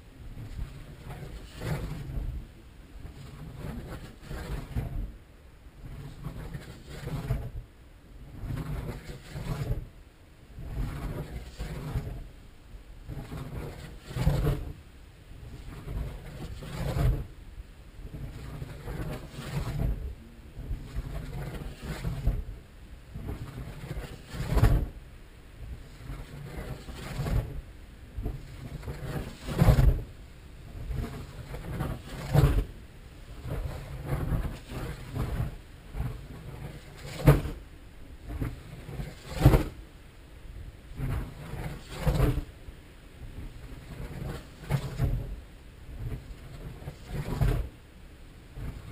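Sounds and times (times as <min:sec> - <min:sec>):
glider passing with air noise: 0:00.0 - 0:48.9
steady low rumble: 0:00.0 - 0:48.9.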